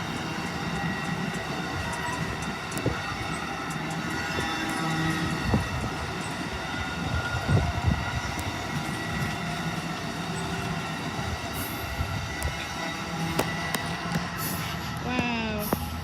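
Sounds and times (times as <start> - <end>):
heavy clacks of train wheels: 0.0 - 16.0
train wheels rumbling on rails: 0.0 - 16.0.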